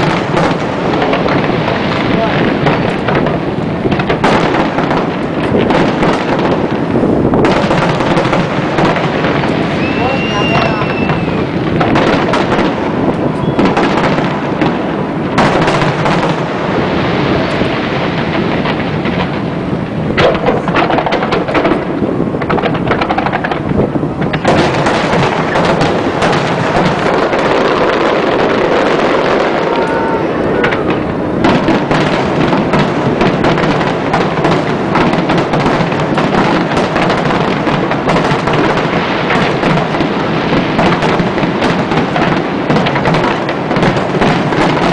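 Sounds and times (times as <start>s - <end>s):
fireworks booming and cracking: 0.0s - 44.9s.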